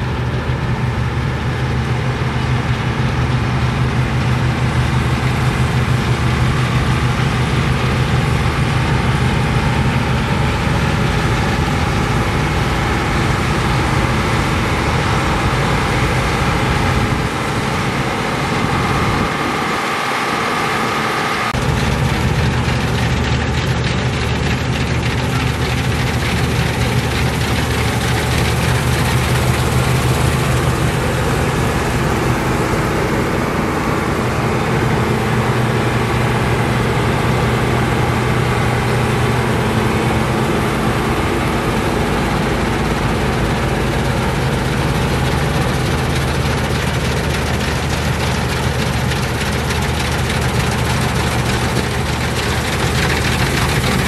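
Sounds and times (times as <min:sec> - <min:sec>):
diesel engine hum: 0:00.0 - 0:54.0.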